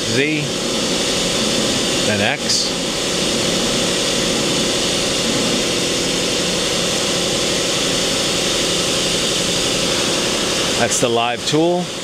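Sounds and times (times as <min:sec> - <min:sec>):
machine tool hum with hiss: 0:00.0 - 0:12.0.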